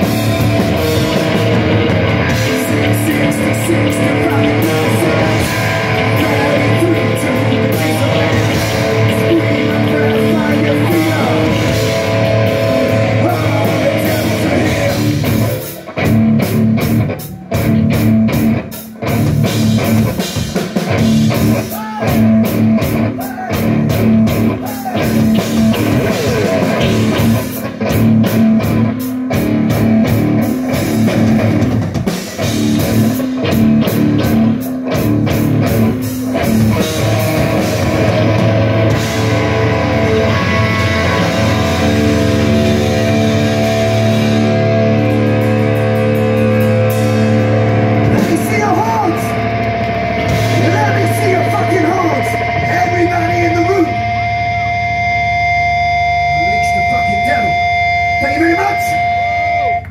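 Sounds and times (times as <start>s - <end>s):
drum kit: 0.0s - 54.6s
bass guitar: 0.0s - 59.9s
distorted electric guitar: 0.0s - 59.9s.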